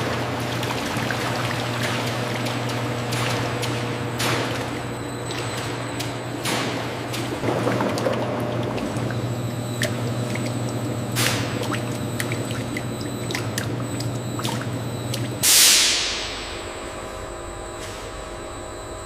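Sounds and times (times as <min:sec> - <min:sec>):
liquid dripping and trickling: 0:00.0 - 0:15.6
machine hum: 0:00.0 - 0:19.0.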